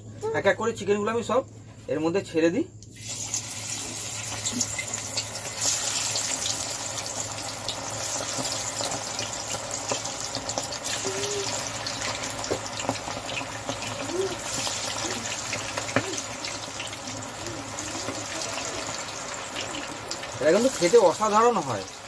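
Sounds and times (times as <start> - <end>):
chicken deep-frying in oil: 2.9 - 22.0.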